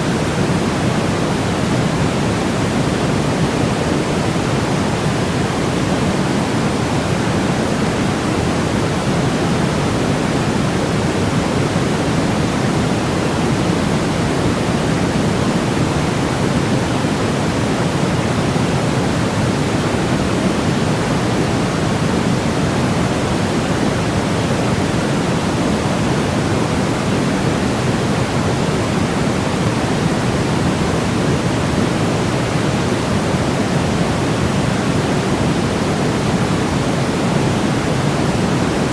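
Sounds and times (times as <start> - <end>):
deep white noise hiss: 0.0 - 38.9.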